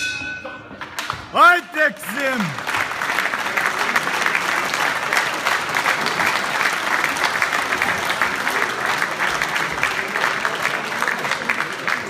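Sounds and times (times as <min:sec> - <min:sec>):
crowd applauding: 0:01.3 - 0:12.0.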